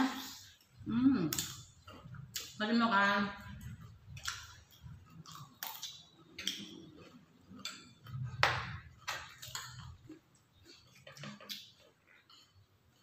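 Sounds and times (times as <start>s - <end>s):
chewing: 0.2s - 13.0s.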